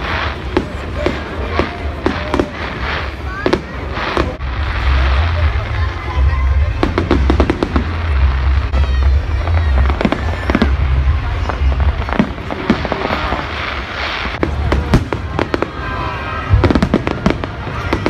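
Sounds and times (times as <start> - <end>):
firework bangs and crackles: 0.0 - 18.0.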